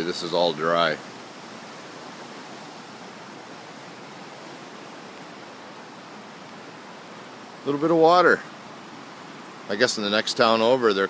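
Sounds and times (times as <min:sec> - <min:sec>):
flooded creek rushing: 0:00.0 - 0:11.0.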